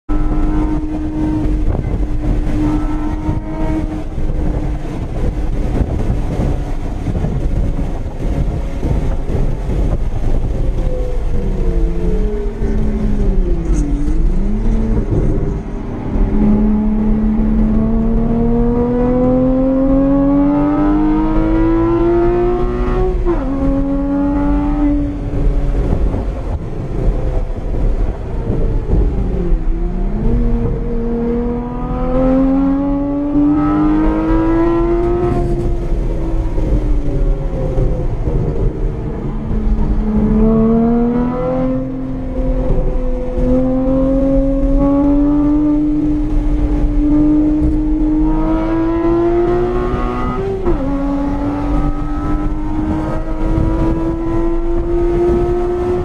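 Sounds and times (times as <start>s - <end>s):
road and wind noise: 0.0s - 56.0s
car engine running hard: 0.1s - 56.0s.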